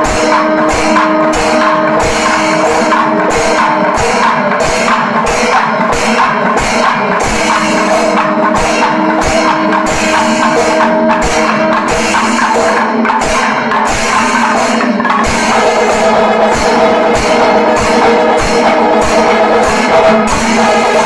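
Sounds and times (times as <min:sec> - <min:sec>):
sustained tone: 0:00.0 - 0:13.2, 0:14.1 - 0:21.0
cymbals clashing: 0:00.0 - 0:21.0
drums beating: 0:00.0 - 0:21.0.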